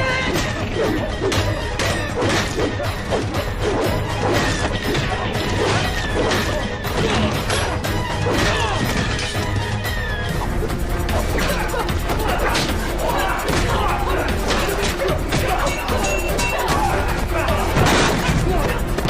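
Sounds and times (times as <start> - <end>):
action music: 0.0 - 19.0.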